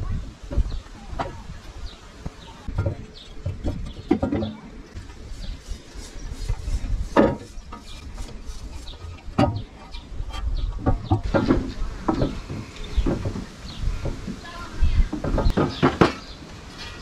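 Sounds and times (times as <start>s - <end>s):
birds chirping: 0.0s - 17.0s
rubbing and scraping rubber gasket: 2.6s - 17.0s.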